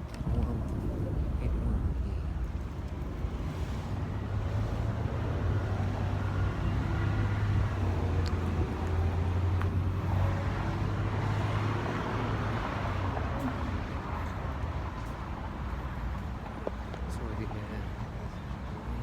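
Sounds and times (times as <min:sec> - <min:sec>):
car engines and road traffic: 0:00.0 - 0:19.0.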